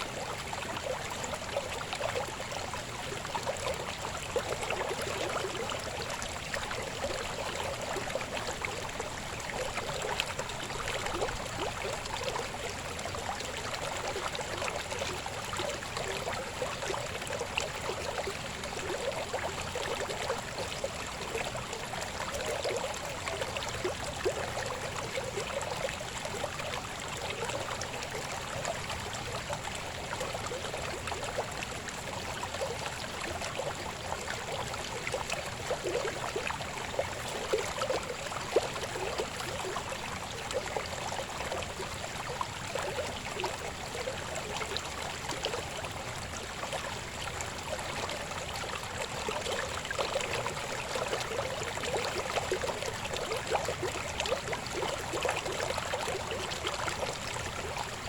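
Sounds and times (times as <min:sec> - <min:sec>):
small water splashes: 0:00.0 - 0:58.0.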